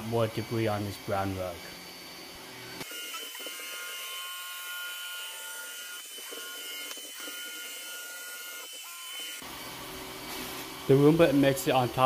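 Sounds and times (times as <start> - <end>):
robot vacuum motor whine: 0.1 - 11.0.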